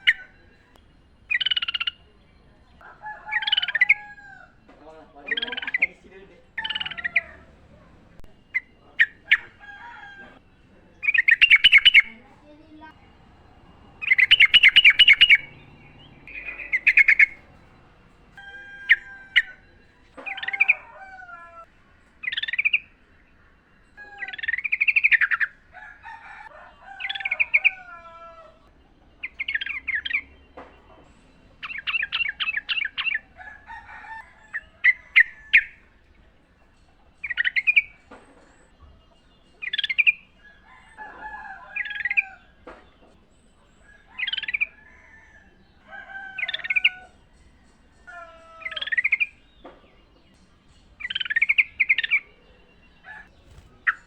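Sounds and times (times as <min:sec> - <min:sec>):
bird chattering song: 0:00.0 - 0:20.9, 0:22.0 - 0:25.7, 0:26.9 - 0:54.0.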